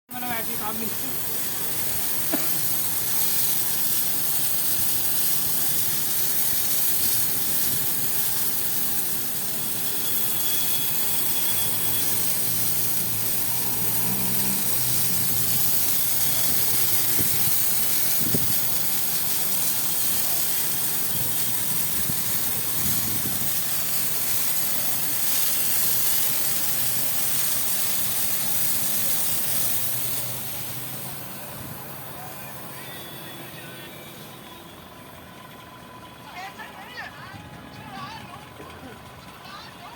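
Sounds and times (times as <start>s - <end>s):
hiss of rushing air: 0.1s - 35.2s.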